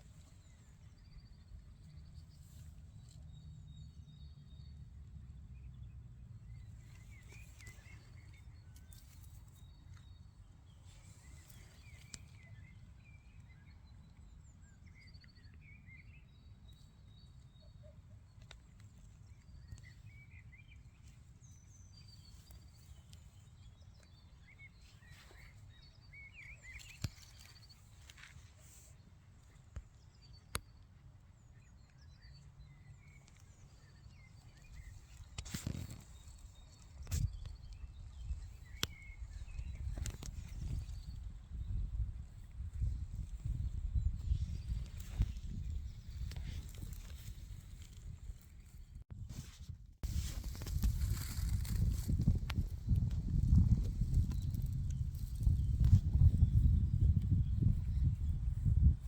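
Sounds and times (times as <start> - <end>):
low rumble of wind: 0.0 - 59.0
songbirds chirping: 0.0 - 59.0.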